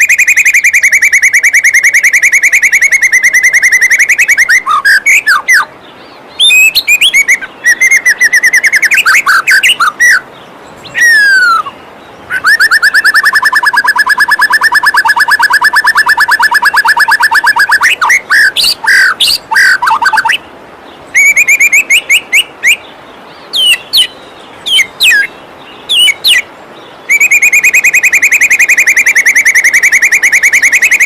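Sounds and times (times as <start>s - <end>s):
bird singing loudly: 0.0s - 5.7s, 6.3s - 20.5s, 21.1s - 22.8s, 23.4s - 31.0s.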